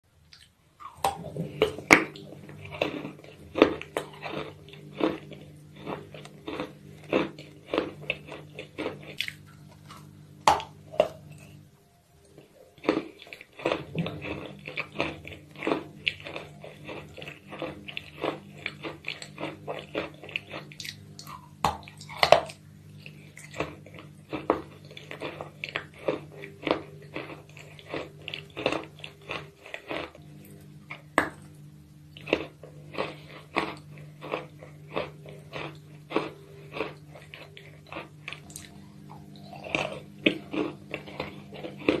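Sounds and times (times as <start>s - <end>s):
steady low hum: 0.1s - 42.0s
chalk crunching in mouth: 0.3s - 11.6s, 12.8s - 30.2s, 32.1s - 38.7s
wet chewing: 0.3s - 11.6s, 12.2s - 31.5s, 32.1s - 42.0s.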